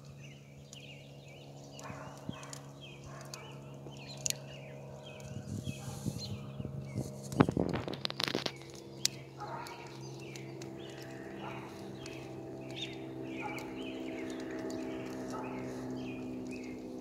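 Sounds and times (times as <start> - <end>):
bird calling: 0.0 - 17.0
steady low hum: 0.0 - 17.0.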